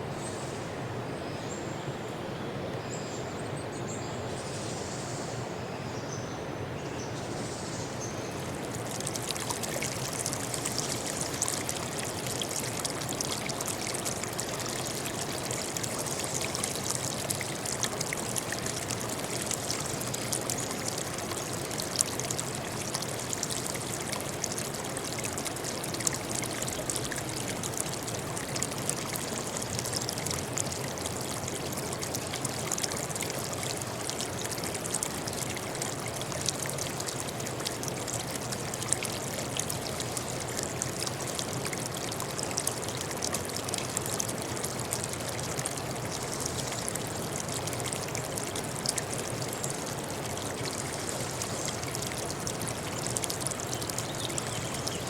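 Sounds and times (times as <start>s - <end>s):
stream babbling over stones: 8.1s - 55.0s.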